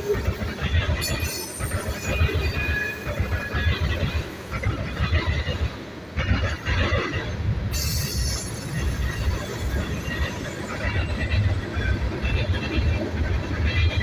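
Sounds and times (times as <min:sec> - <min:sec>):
freight train cars rumbling: 0:00.0 - 0:14.0.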